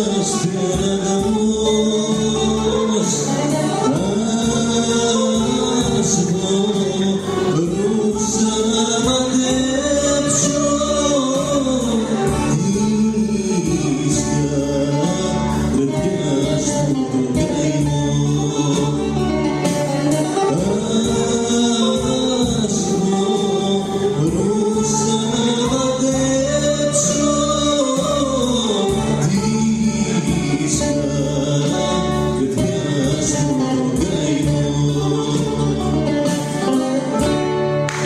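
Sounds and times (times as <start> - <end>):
man singing into a microphone: 0.0 - 37.3
instrumental accompaniment with beat: 0.0 - 38.0.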